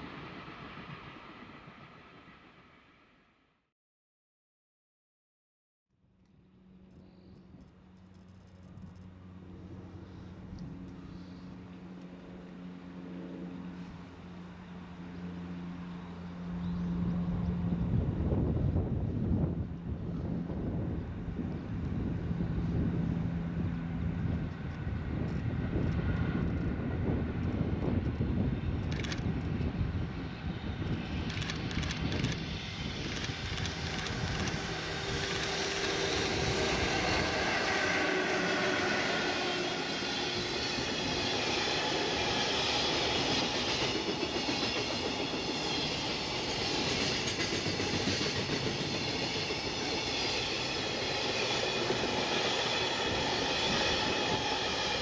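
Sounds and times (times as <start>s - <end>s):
freight train rumbling past: 0.0s - 3.3s, 6.5s - 55.0s
electric locomotive hum: 0.0s - 3.4s, 6.0s - 55.0s.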